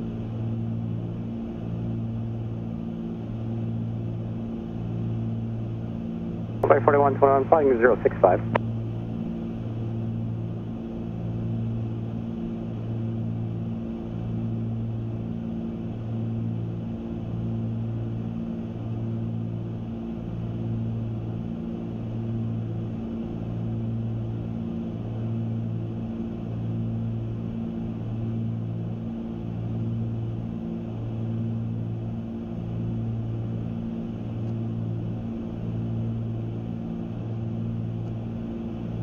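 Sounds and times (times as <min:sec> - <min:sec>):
propeller plane cabin drone: 0:00.0 - 0:39.0.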